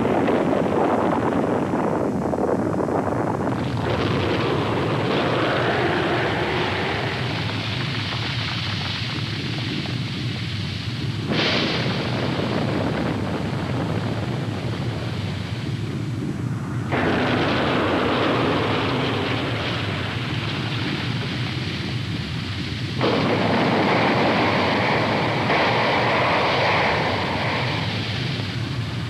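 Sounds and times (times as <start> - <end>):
explosion rumbling: 0.0 - 29.0.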